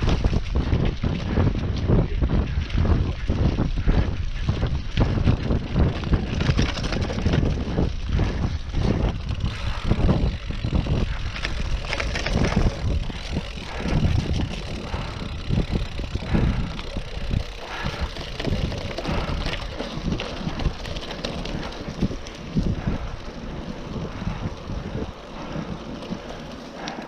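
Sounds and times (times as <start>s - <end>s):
bike knocks and rattles: 0.0s - 23.0s
bike tyres on dirt trail: 0.0s - 27.0s
wind on microphone: 0.0s - 27.0s.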